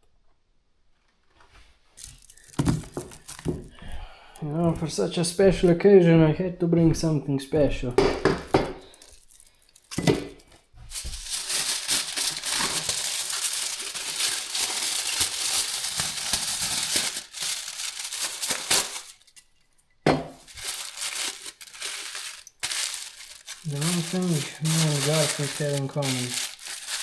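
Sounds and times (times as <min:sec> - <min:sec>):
packaging crinkling: 0:02.0 - 0:05.7, 0:08.2 - 0:19.7, 0:20.3 - 0:27.0.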